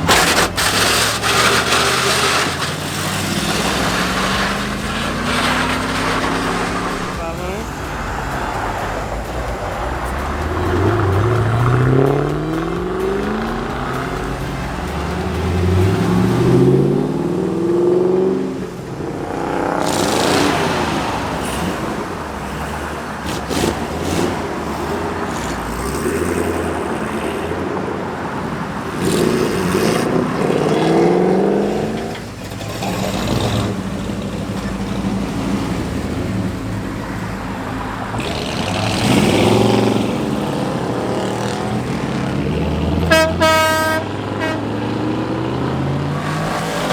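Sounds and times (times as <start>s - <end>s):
car and truck engines revving: 0.0s - 46.9s
loud exhaust noise: 0.0s - 46.9s.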